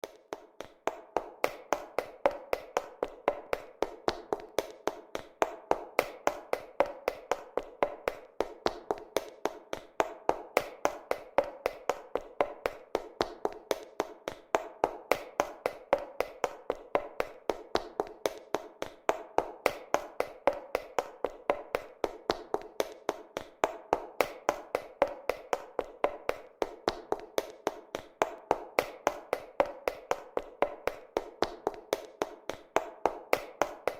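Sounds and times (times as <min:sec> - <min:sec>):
high heels clicking on hard floor: 0:00.0 - 0:33.9.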